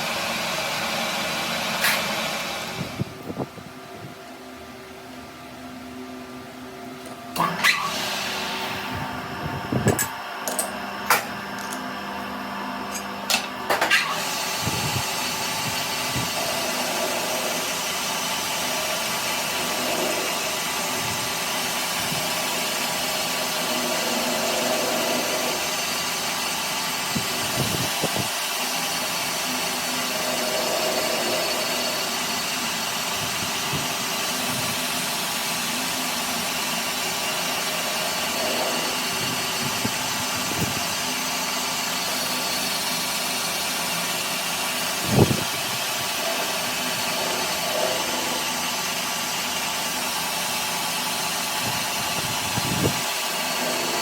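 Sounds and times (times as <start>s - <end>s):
power tool running: 0.0s - 3.4s, 7.0s - 54.0s.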